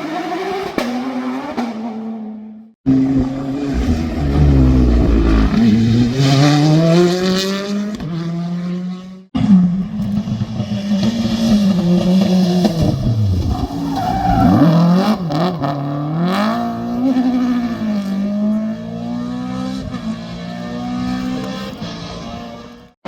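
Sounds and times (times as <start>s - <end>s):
rally car engine revving: 0.0s - 22.9s.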